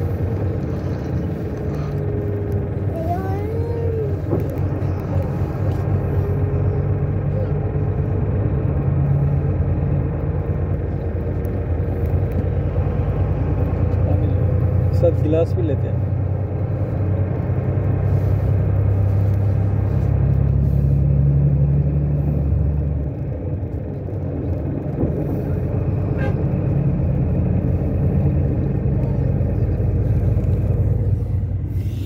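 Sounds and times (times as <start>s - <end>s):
vehicle engine and tyres rumbling: 0.0s - 32.0s.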